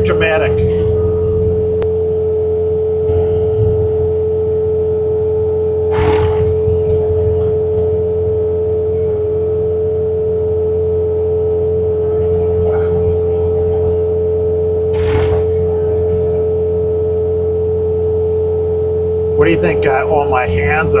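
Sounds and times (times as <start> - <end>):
diesel engine droning: 0.0 - 21.0
snowblower high whine: 0.0 - 21.0.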